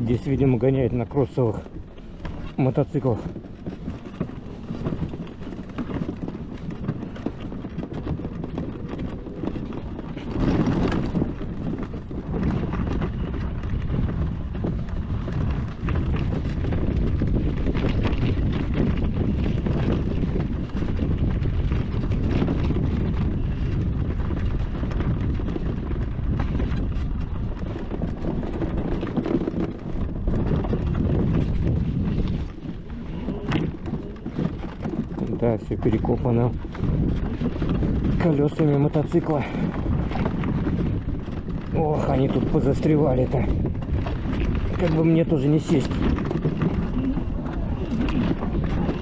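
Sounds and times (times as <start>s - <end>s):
tyres rumbling on dirt: 0.0s - 49.0s
wind on microphone: 0.0s - 49.0s
vehicle body rattling and knocking: 2.2s - 49.0s.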